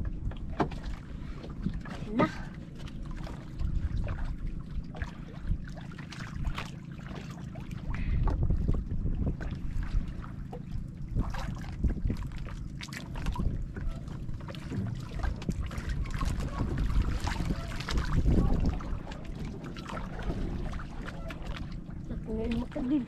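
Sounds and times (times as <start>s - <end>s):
water splashing against boat hull: 0.0s - 23.0s
wind rumbling on microphone: 0.0s - 23.0s.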